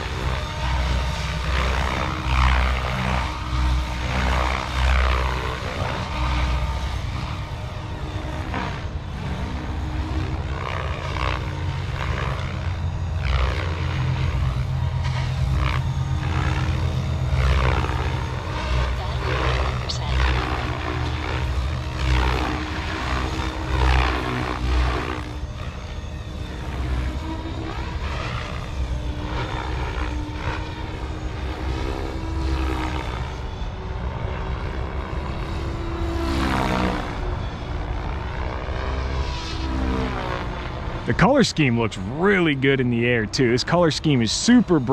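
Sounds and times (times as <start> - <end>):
rc helicopter rotor drone: 0.0 - 44.9
whir of blades and motor: 0.0 - 44.9.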